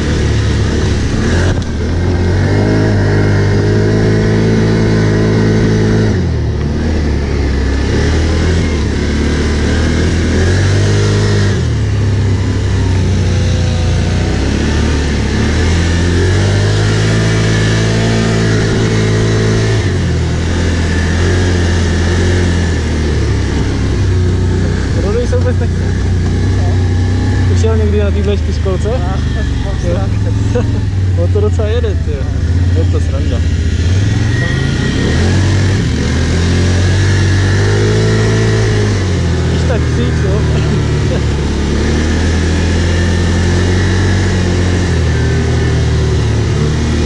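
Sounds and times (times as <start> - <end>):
atv engine revving: 0.0 - 47.0.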